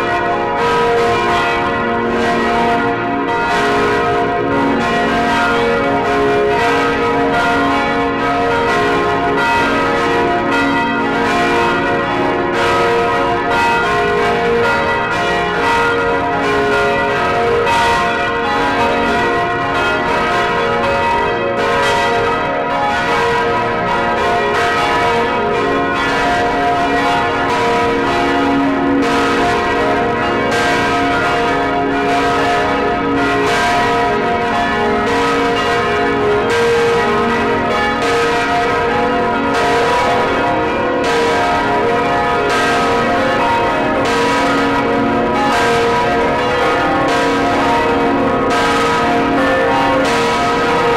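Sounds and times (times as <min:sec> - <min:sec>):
large church bells tolling: 0:00.0 - 0:50.9.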